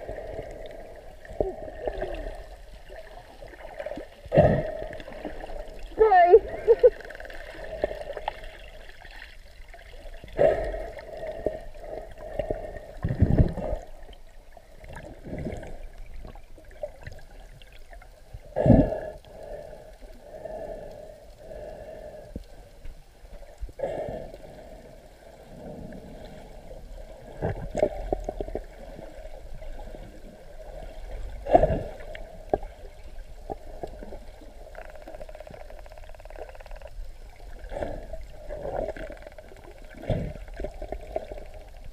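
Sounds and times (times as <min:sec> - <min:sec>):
underwater water rushing: 0:00.0 - 0:41.9.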